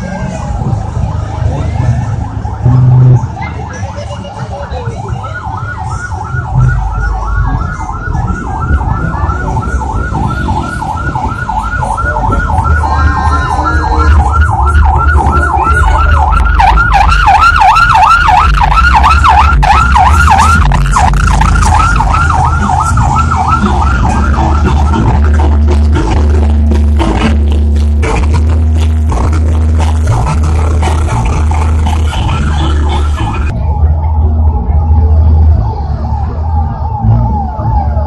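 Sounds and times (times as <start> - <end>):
low rumble of engines: 0.0 - 38.0
electronic siren yelping: 0.1 - 26.7, 29.9 - 38.0.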